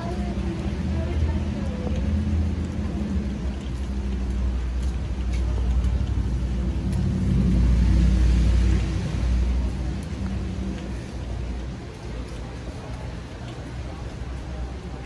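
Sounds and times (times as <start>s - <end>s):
city noise rumble: 0.0s - 15.0s.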